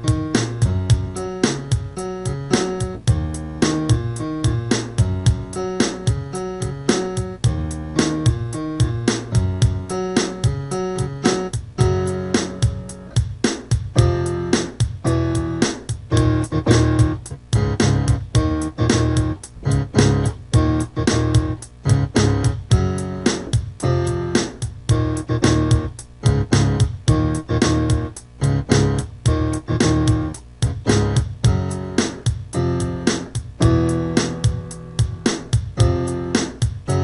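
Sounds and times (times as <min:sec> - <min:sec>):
choppy bass riff: 0:00.0 - 0:37.0
pitched instruments playing: 0:00.0 - 0:37.0.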